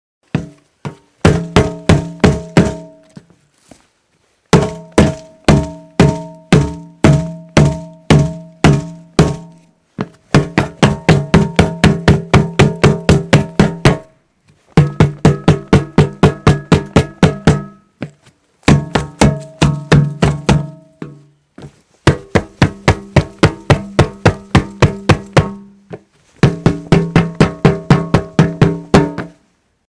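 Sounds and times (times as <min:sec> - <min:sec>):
hollow resonant knocks: 0:00.3 - 0:03.3, 0:04.6 - 0:14.1, 0:14.8 - 0:21.3, 0:22.0 - 0:29.5.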